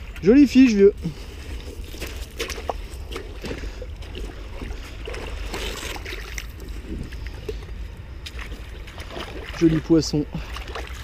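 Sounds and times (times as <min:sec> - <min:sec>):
water sloshing and splashing: 0:00.0 - 0:11.0
wind rumble on microphone: 0:00.0 - 0:11.0.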